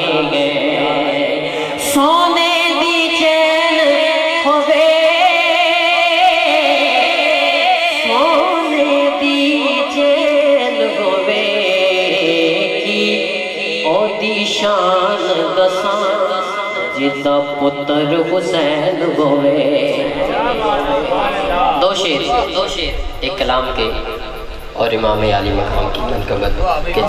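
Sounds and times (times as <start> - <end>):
man singing into microphone: 0.0 - 24.0.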